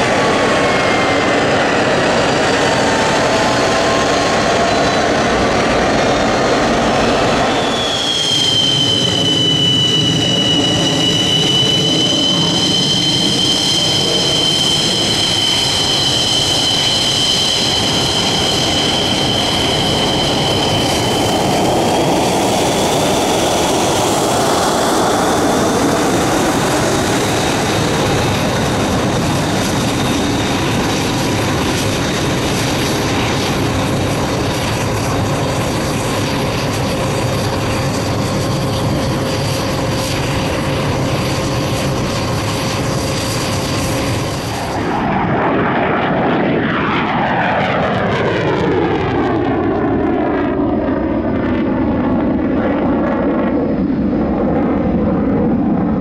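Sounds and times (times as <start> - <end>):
jet engine rumble with whine: 0.0 - 56.0.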